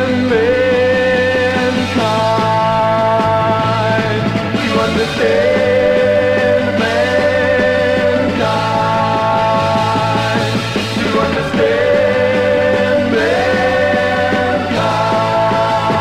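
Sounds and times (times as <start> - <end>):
rock song with steady beat: 0.0 - 16.0.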